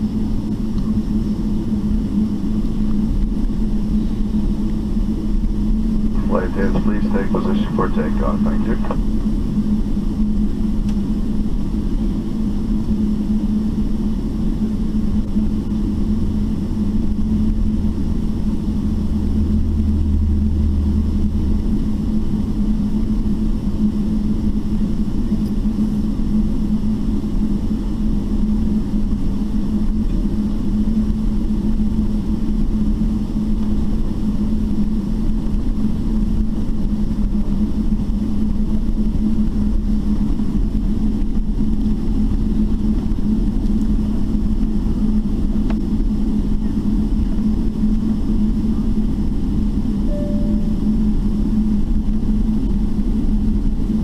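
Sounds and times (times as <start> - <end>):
deep rumble: 0.0 - 27.2, 27.8 - 53.9
airplane cabin engine drone: 0.0 - 54.0.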